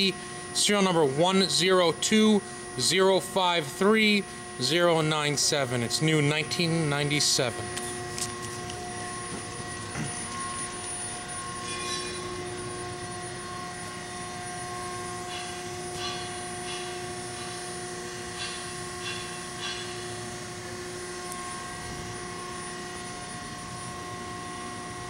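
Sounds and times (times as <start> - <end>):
machinery hum: 0.0 - 25.0.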